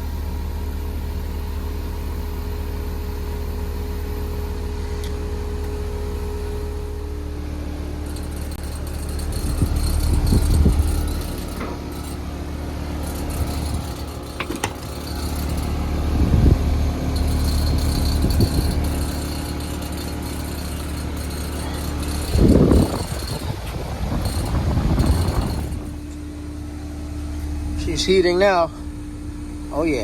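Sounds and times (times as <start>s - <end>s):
heat pump compressor hum and fan: 0.0s - 30.0s.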